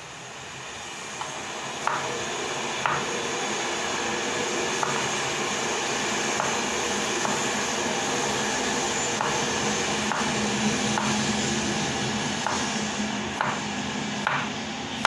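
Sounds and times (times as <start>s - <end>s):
rushing kitchen noise: 1.2s - 15.0s.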